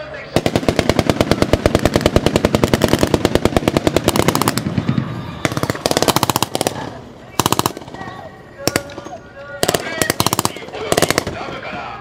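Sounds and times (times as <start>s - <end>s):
automatic gunfire burst: 0.4s - 9.0s, 9.6s - 11.6s.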